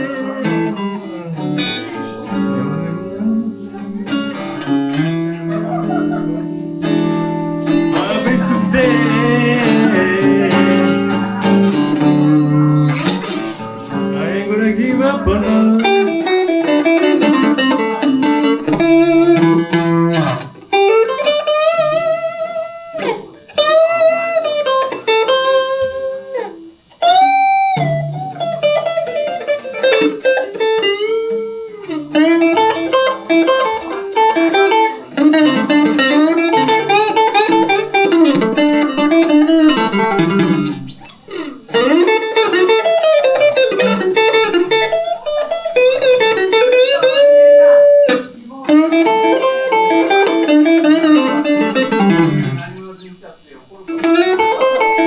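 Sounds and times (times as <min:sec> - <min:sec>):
electric blues guitar solo: 0:00.0 - 0:52.8, 0:53.8 - 0:55.0.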